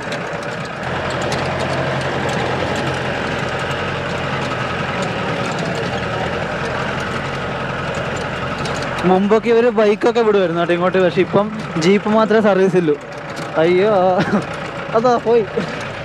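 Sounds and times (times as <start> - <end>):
off-road vehicle engine droning: 0.0 - 16.0
small rattles: 0.0 - 16.0.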